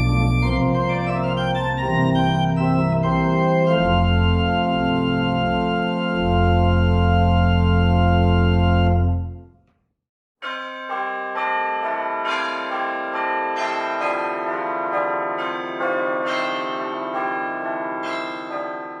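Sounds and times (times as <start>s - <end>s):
church bells ringing: 0.0s - 9.3s, 10.4s - 19.0s.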